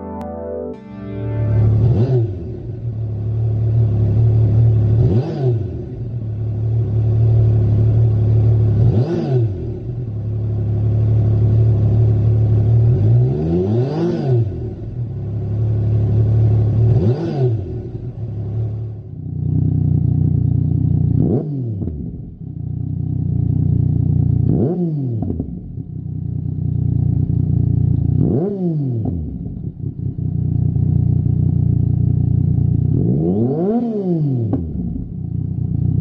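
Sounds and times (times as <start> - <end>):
motorcycle engine idling and revving: 1.5 - 36.0.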